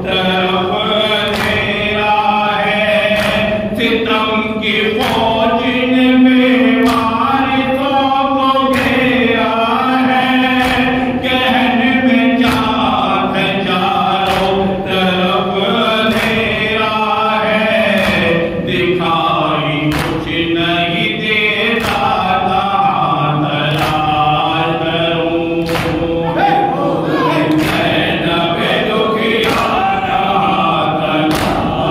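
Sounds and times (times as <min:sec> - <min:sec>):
man chanting into a microphone: 0:00.0 - 0:31.9.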